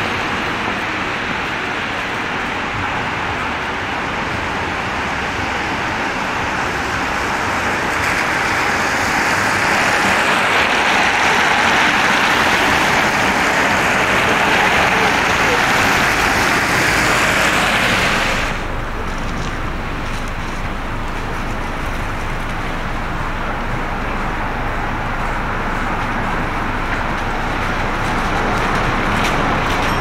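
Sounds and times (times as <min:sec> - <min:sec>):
car tyres hissing on wet road: 0:00.0 - 0:30.0
distant traffic hum: 0:00.0 - 0:30.0.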